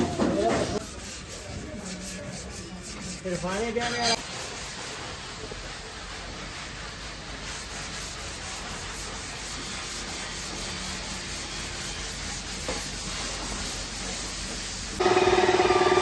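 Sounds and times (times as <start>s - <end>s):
sanding on car body panel: 0.2s - 16.0s.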